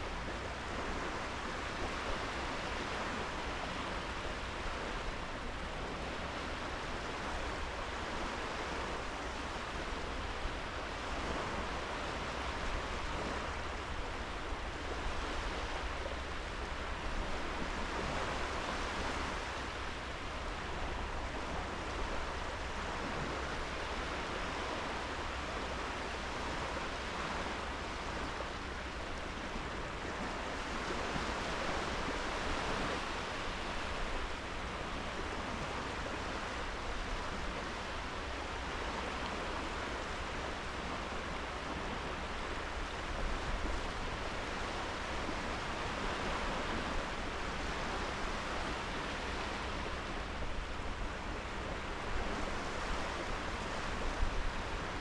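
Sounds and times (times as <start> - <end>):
small waves on sandy beach: 0.0 - 55.0.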